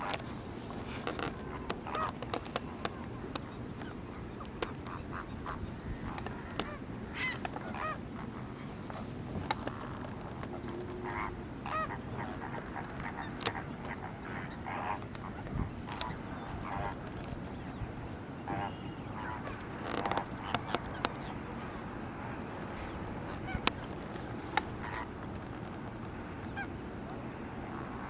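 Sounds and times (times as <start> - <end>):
flamingos honking: 0.0 - 28.0
low background noise: 0.0 - 28.0.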